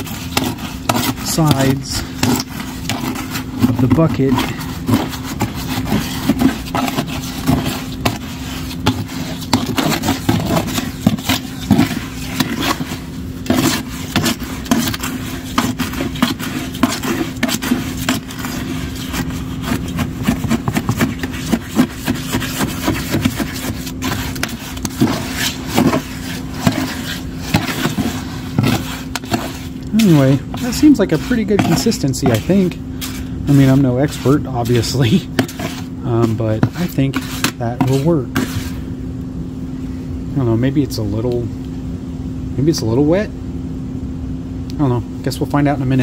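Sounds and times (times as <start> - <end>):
spatula scraping bucket of concrete: 0.0 - 38.9, 45.6 - 46.0
steady low hum: 0.0 - 46.0.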